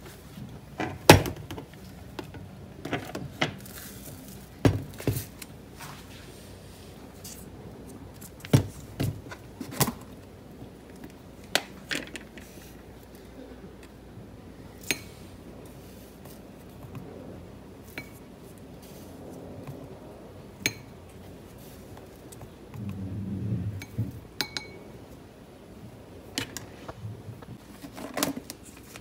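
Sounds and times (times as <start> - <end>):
dull rumble of handling: 0.0 - 29.0.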